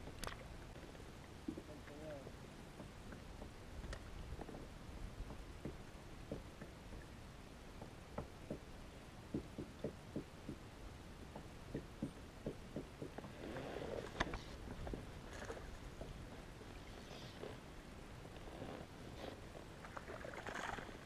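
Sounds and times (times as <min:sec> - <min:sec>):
faint low rumble: 0:00.0 - 0:21.0.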